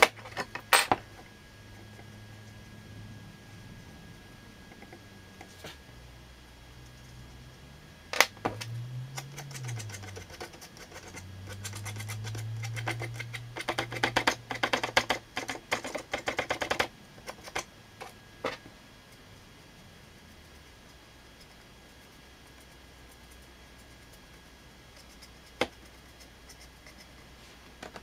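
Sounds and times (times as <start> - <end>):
low hum: 0.0 - 14.6, 16.9 - 28.0.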